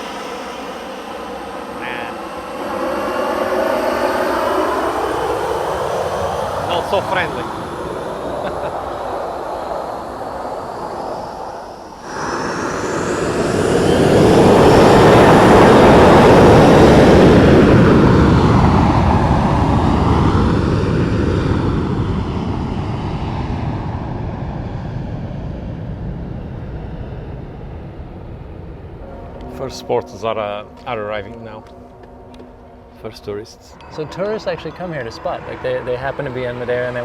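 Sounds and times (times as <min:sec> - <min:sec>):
jet engines at takeoff: 0:00.0 - 0:37.0.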